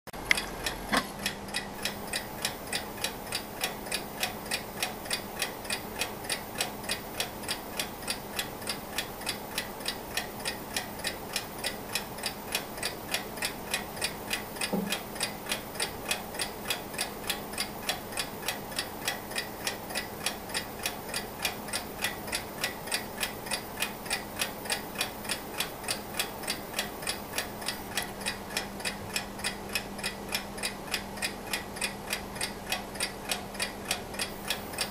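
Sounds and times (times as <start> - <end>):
alarm clock ticking: 0.2 - 34.9
faint steady hum: 0.2 - 34.9.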